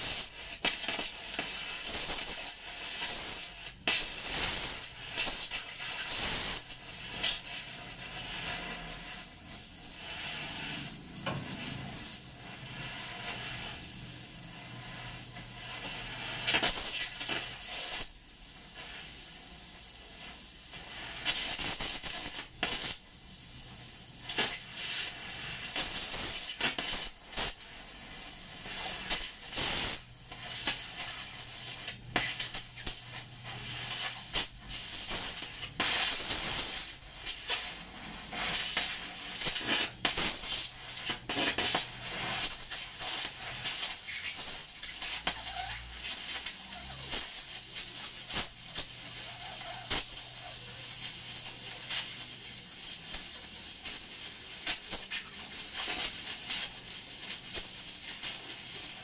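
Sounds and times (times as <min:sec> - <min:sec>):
cutting torch hissing: 0:00.0 - 0:59.0
molten metal crackling and spitting: 0:00.0 - 0:59.0.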